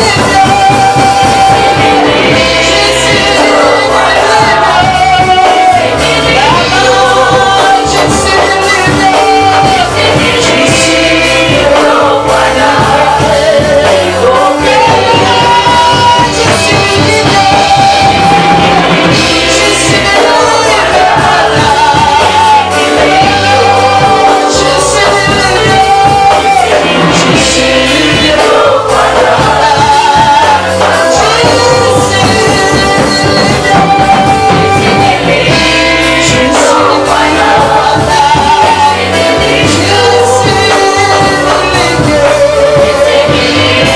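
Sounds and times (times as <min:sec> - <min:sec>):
live gospel music with singers: 0:00.0 - 0:43.9.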